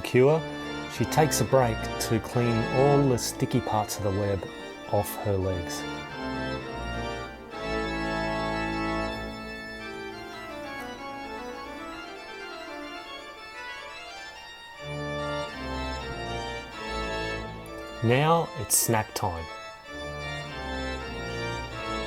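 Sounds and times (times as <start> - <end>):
organ playing slow chords: 0.0 - 22.0.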